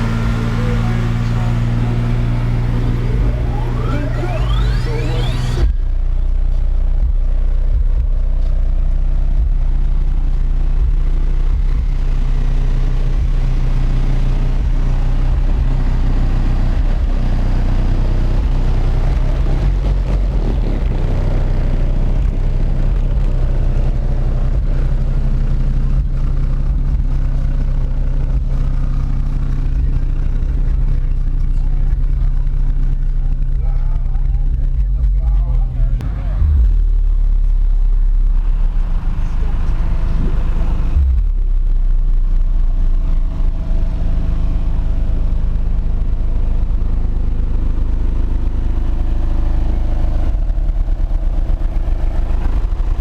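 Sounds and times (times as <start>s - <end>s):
car stereo deep bass: 0.0s - 53.0s.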